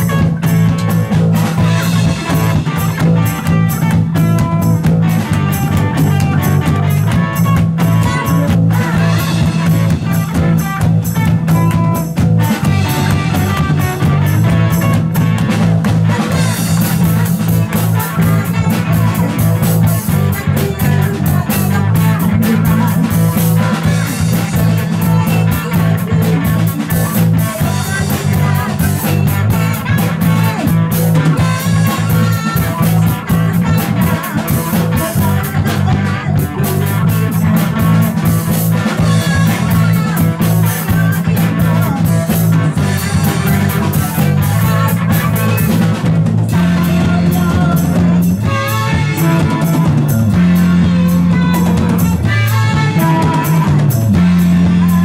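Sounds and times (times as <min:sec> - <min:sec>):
bass guitar: 0:00.0 - 0:55.0
drum kit: 0:00.0 - 0:55.0
electric guitar: 0:00.0 - 0:55.0
woman singing: 0:01.7 - 0:55.0.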